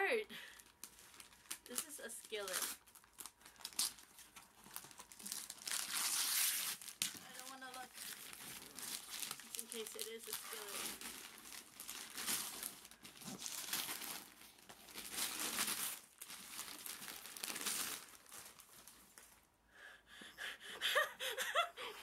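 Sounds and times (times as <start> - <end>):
wrapping paper tearing and crumpling: 0.4 - 19.4.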